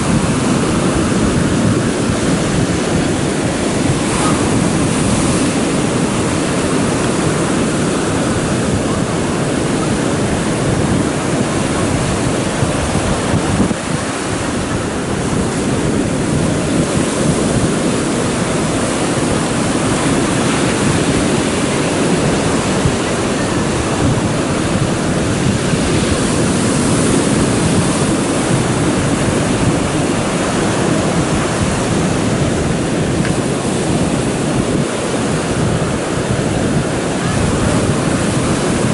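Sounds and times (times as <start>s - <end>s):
waves breaking: 0.0s - 38.9s
wind buffeting microphone: 0.0s - 38.9s.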